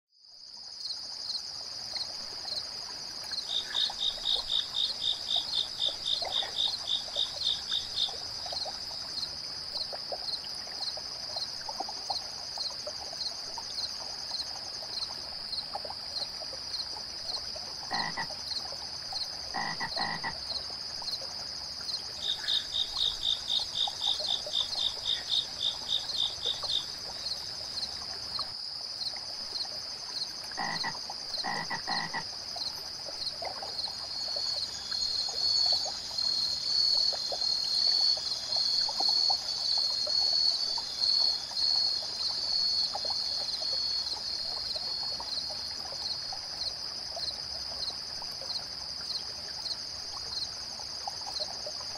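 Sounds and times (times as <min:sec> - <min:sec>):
frogs croaking: 0:00.2 - 0:51.9
insects chirping: 0:00.2 - 0:51.9
flowing water hiss: 0:00.4 - 0:51.9.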